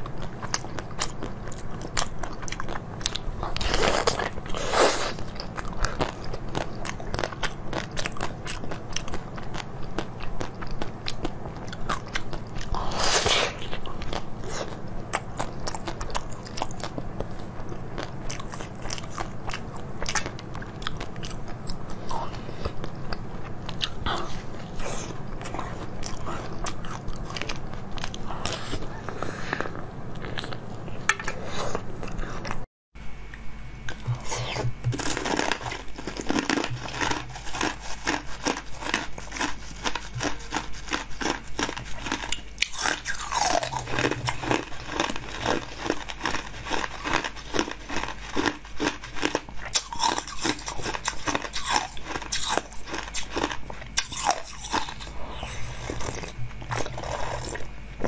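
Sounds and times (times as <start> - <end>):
person chewing jelly sweets: 0.0 - 32.7, 33.3 - 58.0.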